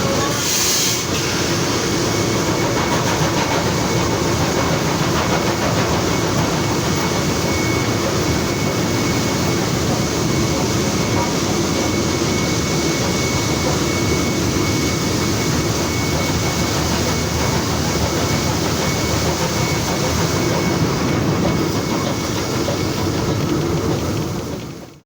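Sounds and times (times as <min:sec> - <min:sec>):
steam locomotive running noise: 0:00.0 - 0:25.0.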